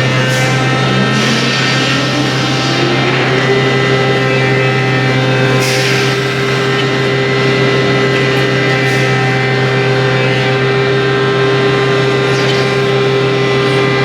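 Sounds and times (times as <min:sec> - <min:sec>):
wood router motor whining: 0:00.0 - 0:14.0.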